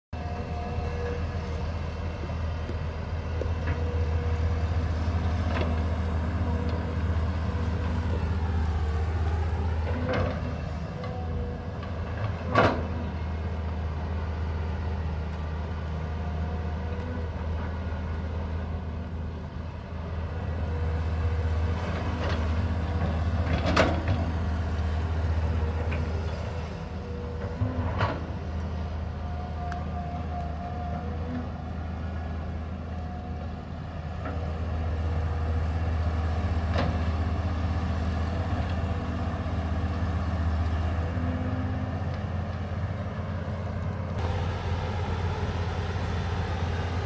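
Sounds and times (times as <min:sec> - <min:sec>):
excavator diesel engine running: 0:00.2 - 0:47.0.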